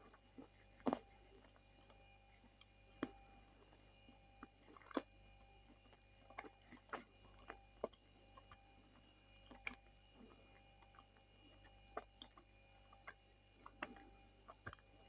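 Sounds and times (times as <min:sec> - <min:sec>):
mouth chewing clay: 0:00.0 - 0:15.0.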